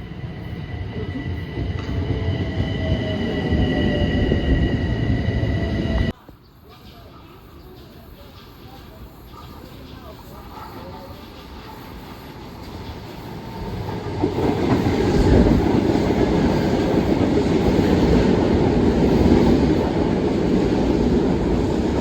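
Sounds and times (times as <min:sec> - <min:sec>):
train running past: 0:00.0 - 0:06.2, 0:07.8 - 0:22.0.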